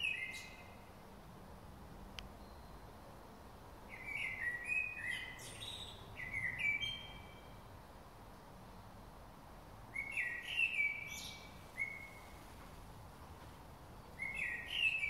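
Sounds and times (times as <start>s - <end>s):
songbird singing: 0.0s - 1.3s, 2.0s - 15.0s.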